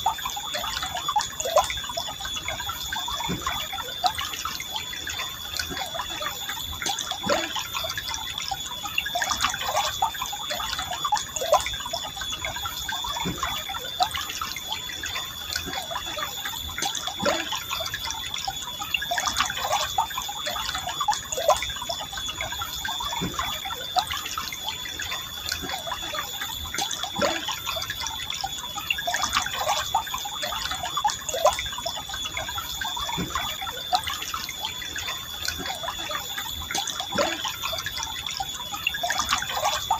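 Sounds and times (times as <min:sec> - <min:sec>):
river water trickling and gurgling: 0:00.0 - 0:39.9.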